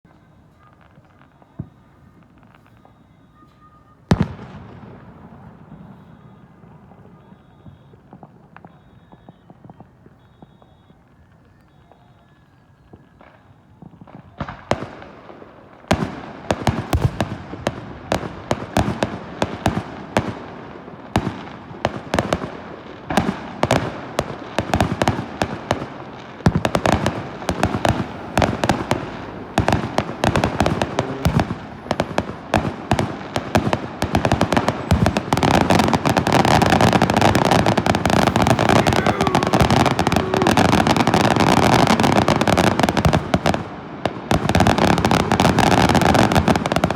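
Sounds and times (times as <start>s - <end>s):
fireworks popping and crackling: 0.1s - 46.9s.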